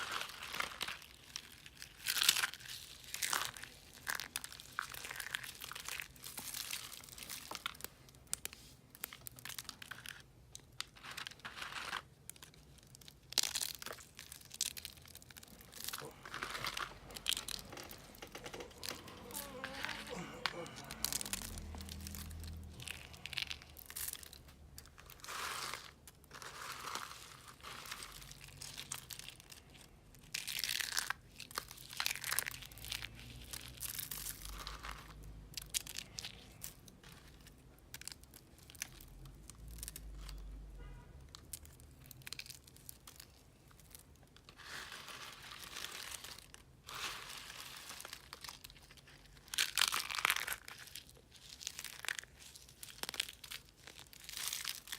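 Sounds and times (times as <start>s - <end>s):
soap block crunching: 0.0s - 40.4s, 41.4s - 54.9s.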